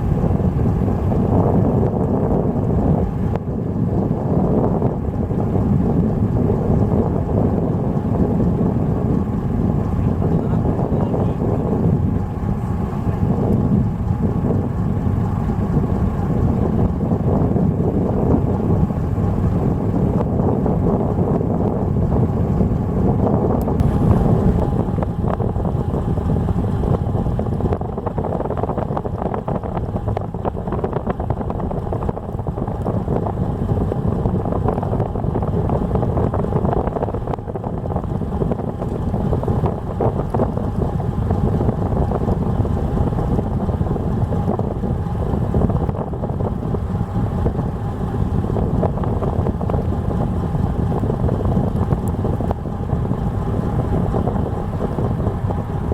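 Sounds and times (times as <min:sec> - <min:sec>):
boat engine running: 0:00.0 - 0:55.9
wind buffeting microphone: 0:00.0 - 0:55.9.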